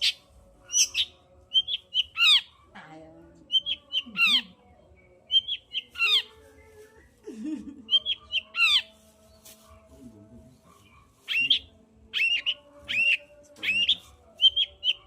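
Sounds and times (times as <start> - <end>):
shrike singing: 0.0 - 2.5, 3.4 - 9.8, 10.5 - 15.0.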